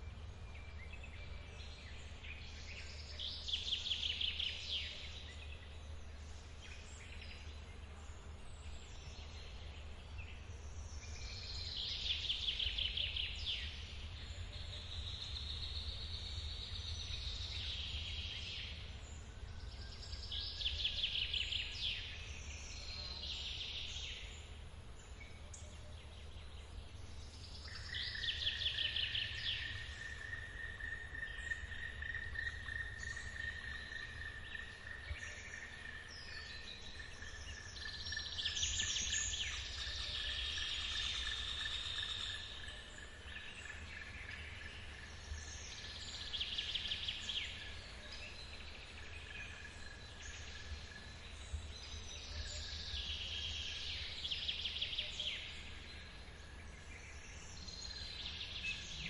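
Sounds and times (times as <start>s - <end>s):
birds singing: 0.0s - 59.0s.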